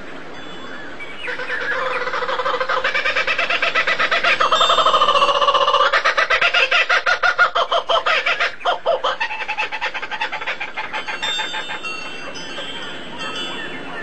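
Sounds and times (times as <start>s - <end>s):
bird chattering calls: 1.2s - 14.0s.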